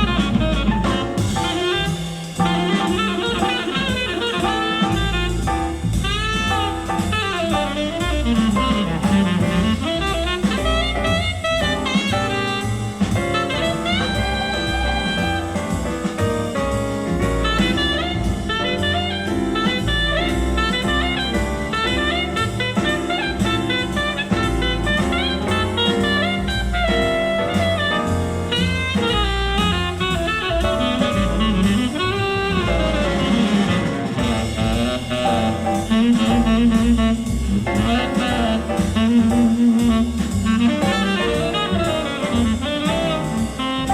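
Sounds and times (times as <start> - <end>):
jazz with saxophone bass and drums: 0.0 - 43.9.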